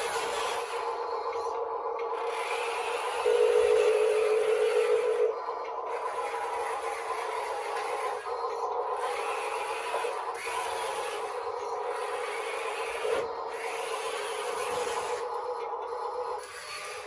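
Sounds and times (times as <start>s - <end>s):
hydraulic pump whining: 0.0s - 15.8s.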